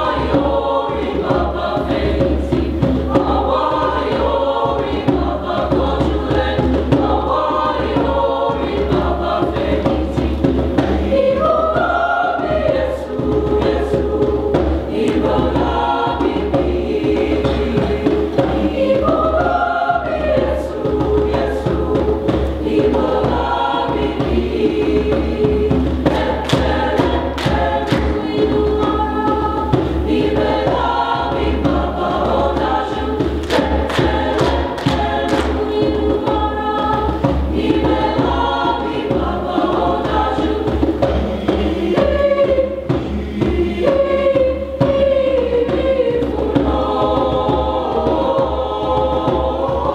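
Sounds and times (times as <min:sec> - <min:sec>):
mixed choir singing in parts: 0:00.0 - 0:49.9.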